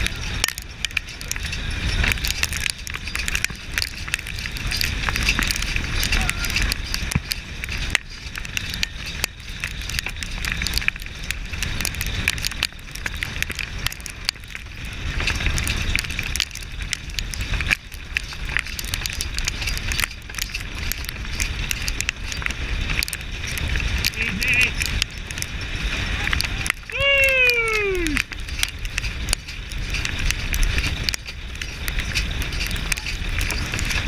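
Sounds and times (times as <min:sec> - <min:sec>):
clatter of hooves and wagon: 0:00.0 - 0:34.0
wind rumbling on microphone: 0:00.0 - 0:34.0.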